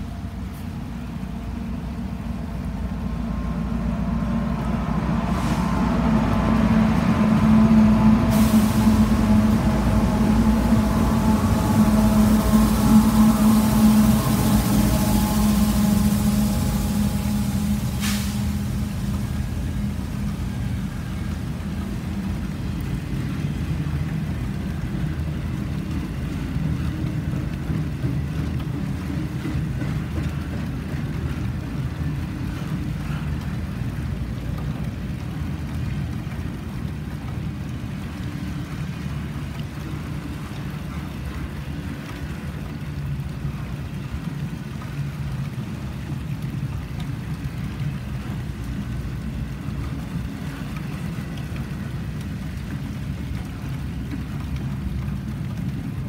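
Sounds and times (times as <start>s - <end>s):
freight train wheels rumbling: 0.0s - 56.0s
rain falling: 0.0s - 56.0s.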